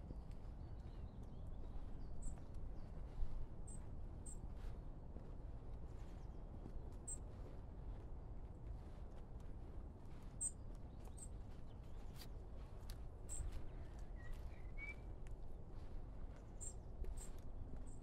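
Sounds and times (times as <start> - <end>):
footsteps on a path: 0.0 - 18.0.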